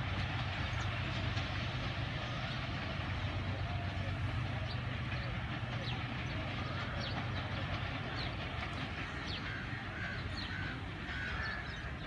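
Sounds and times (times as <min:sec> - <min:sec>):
distant train rumble: 0:00.0 - 0:12.0
birds chirping: 0:02.0 - 0:12.0.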